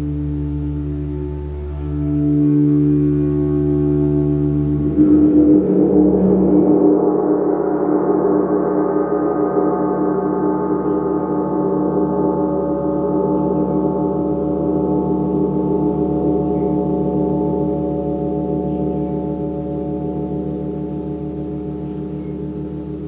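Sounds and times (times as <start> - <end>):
gong shimmering tones: 0.0 - 23.0.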